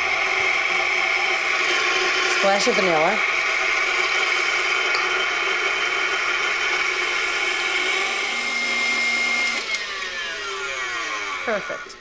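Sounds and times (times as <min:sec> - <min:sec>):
stand mixer motor whirring: 0:00.0 - 0:12.0.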